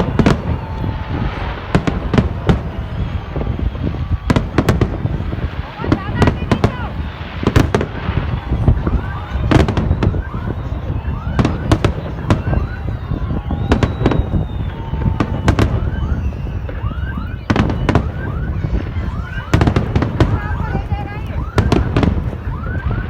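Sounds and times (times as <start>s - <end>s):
fireworks bangs and crackles: 0.0s - 23.0s
low rumble of explosions: 0.0s - 23.0s.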